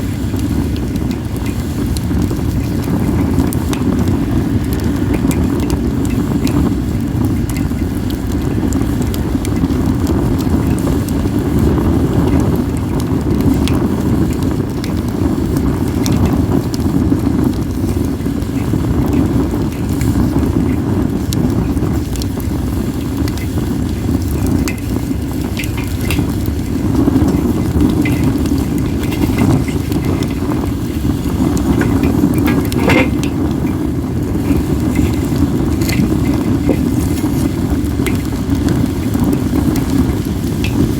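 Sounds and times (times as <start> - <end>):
firewood crackling and popping: 0.0 - 40.9
wind rumble on microphone: 0.0 - 40.9.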